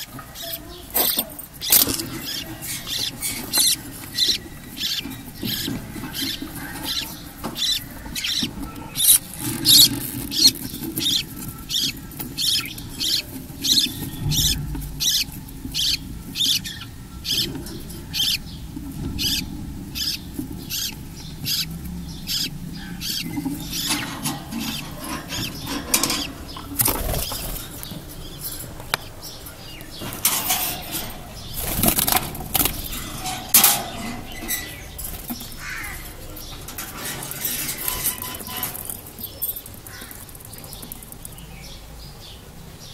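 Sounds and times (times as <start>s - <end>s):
chicks raspy begging calls: 0.0s - 41.8s.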